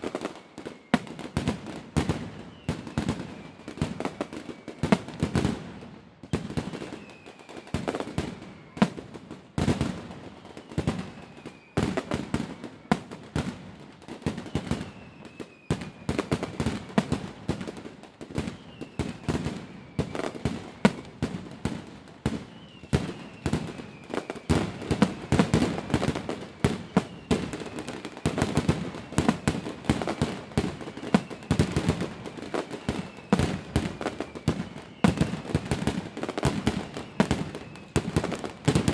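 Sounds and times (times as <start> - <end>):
faint falling whistles: 0.0 - 5.5, 6.2 - 21.6, 22.3 - 38.9
fireworks bangs and crackles: 0.0 - 38.9.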